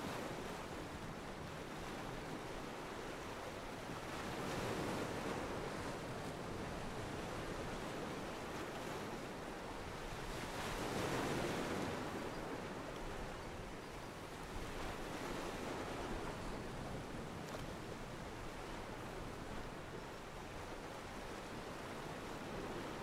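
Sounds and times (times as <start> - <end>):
ocean water lapping against pier: 0.0 - 23.0.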